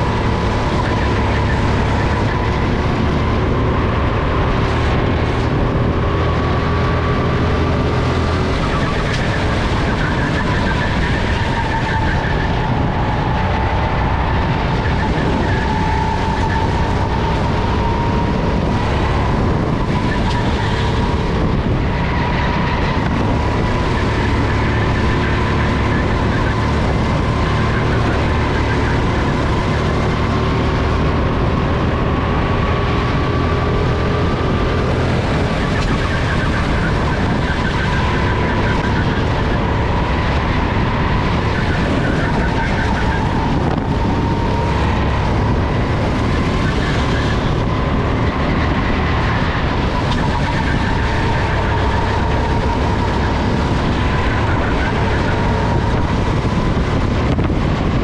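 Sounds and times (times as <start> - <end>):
kart engine running: 0.0 - 58.0
wind rushing on microphone: 0.0 - 58.0.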